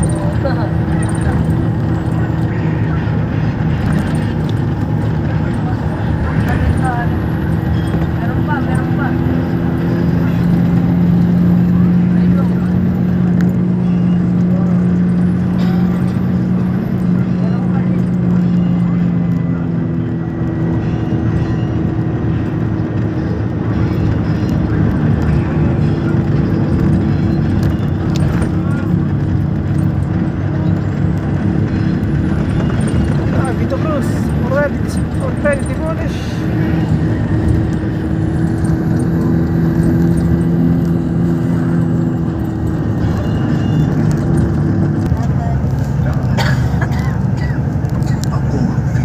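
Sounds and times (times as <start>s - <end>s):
road noise: 0.0s - 49.0s
traffic noise: 0.0s - 49.0s
vehicle engine running: 0.0s - 49.0s.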